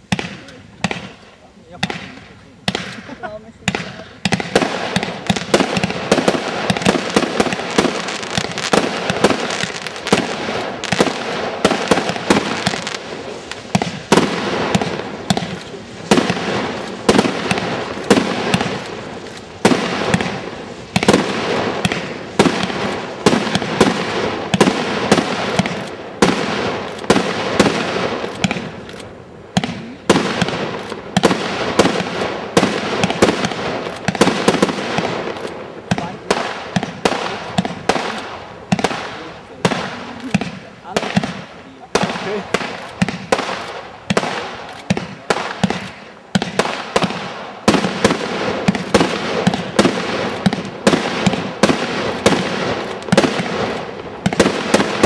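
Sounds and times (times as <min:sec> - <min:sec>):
fireworks banging: 0:00.0 - 0:55.0.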